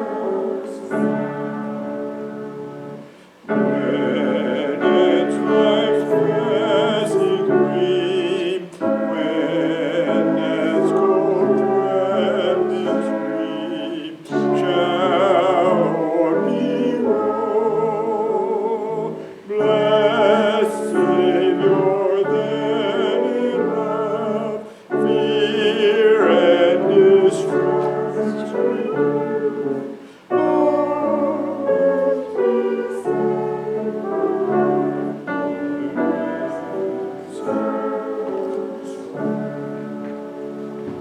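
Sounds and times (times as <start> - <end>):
piano accompaniment: 0.0 - 41.0
voices singing a hymn: 0.0 - 41.0.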